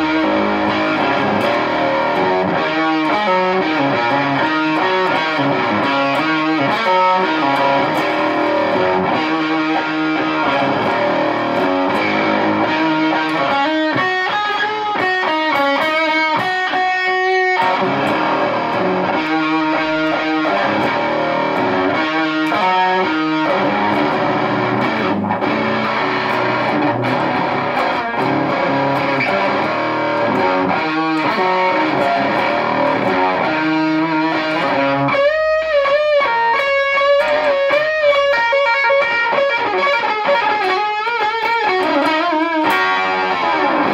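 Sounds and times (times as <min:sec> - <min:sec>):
fuzzed electric guitar lead: 0:00.0 - 0:43.9.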